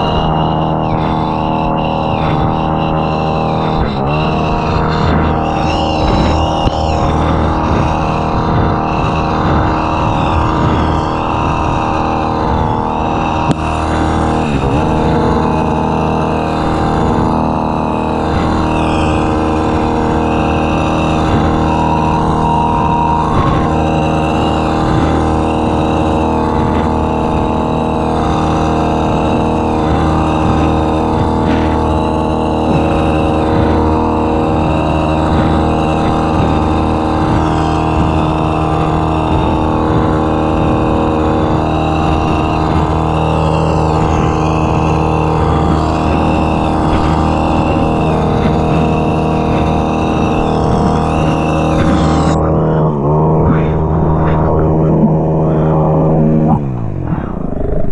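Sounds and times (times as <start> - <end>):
hedge trimmer running: 0.0 - 56.8.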